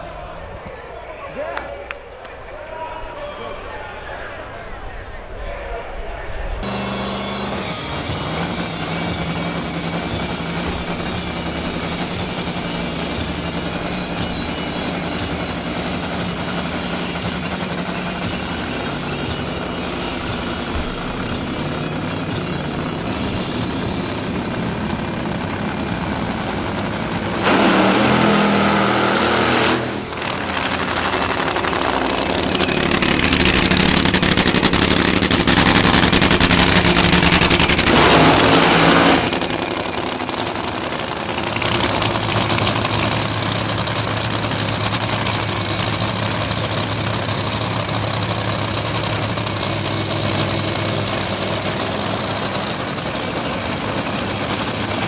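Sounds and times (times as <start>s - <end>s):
dragster engine idling: 3.5s - 27.9s, 30.0s - 55.0s
drag racing engine at full throttle: 6.5s - 55.0s.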